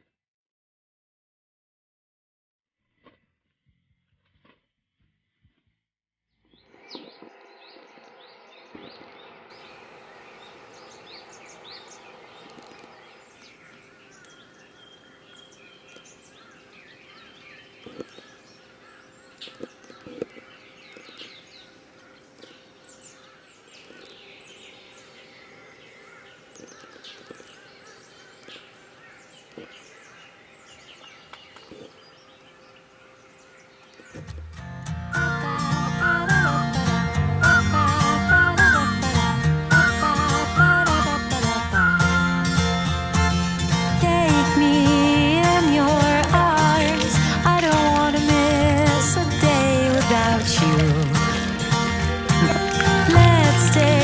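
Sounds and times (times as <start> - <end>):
birds chirping and calling: 8.6 - 34.4, 35.2 - 54.0.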